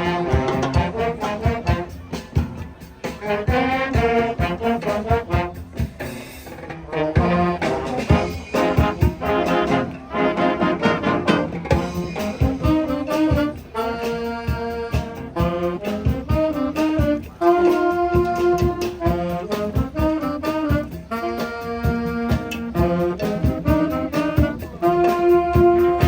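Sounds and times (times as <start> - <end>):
brass horns playing: 0.0 - 26.0
steady drum beat: 0.0 - 26.0.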